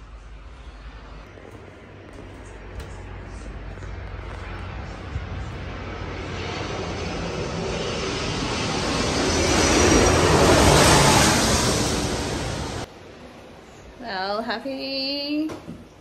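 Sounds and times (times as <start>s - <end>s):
aircraft passing by: 0.0s - 14.4s.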